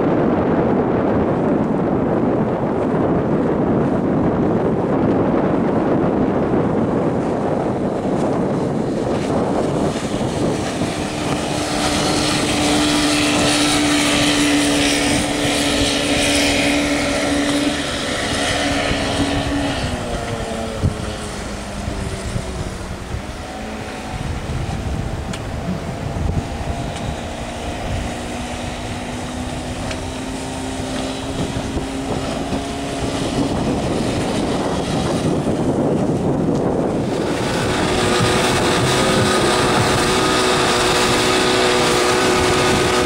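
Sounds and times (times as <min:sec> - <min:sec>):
outboard motor whine: 0:00.0 - 0:43.0.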